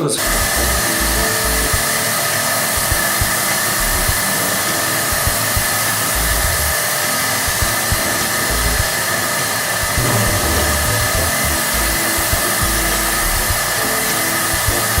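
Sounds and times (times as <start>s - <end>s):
paint sprayer turbine running: 0.0s - 15.0s.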